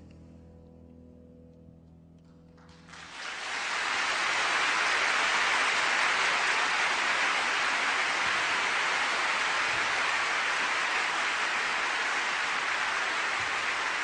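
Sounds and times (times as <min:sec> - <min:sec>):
audience applause: 0:02.6 - 0:14.0.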